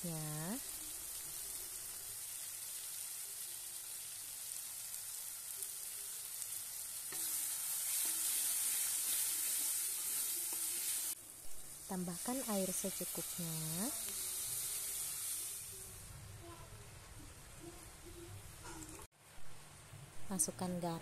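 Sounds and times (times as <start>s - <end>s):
spice paste sizzling in a wok: 0.0s - 18.2s.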